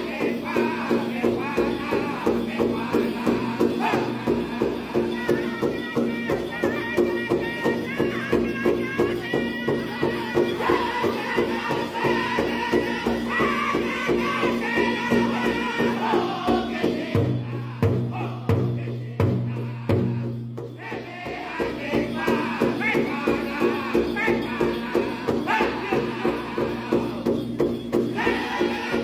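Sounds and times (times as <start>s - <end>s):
large hand drum beating: 0.0s - 29.0s
men singing together: 0.0s - 29.0s.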